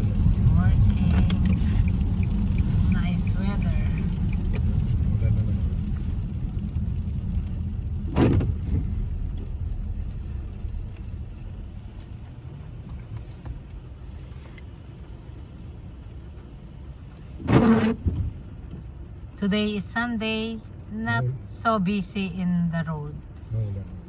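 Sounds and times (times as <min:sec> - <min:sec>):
car road rumble: 0:00.0 - 0:24.0.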